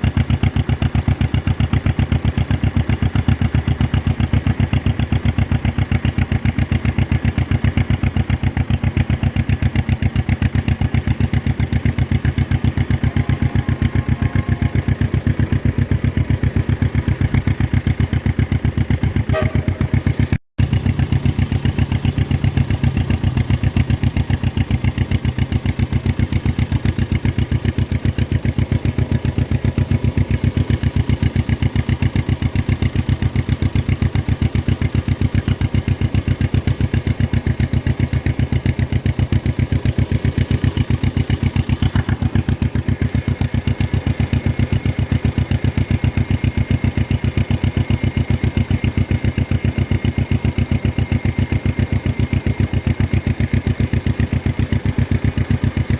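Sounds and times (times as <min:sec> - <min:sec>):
tractor engine putt-putt: 0:00.0 - 0:55.9.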